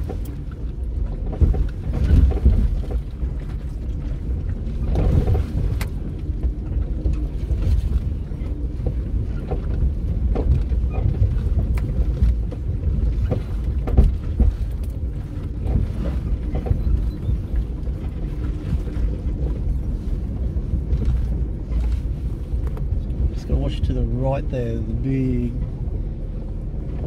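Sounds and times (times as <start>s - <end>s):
knocks and rattles over bumps: 0.0s - 27.0s
vehicle engine rumble: 0.0s - 27.0s.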